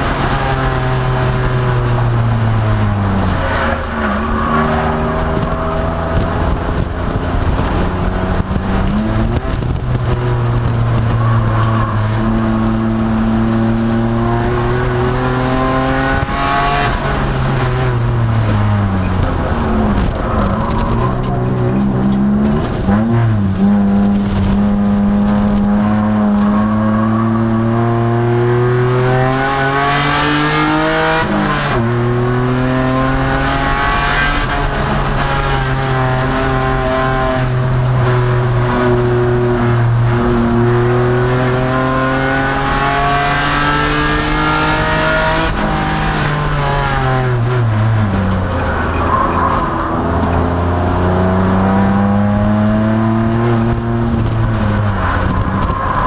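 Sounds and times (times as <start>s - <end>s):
car engine under racing load: 0.0s - 56.0s.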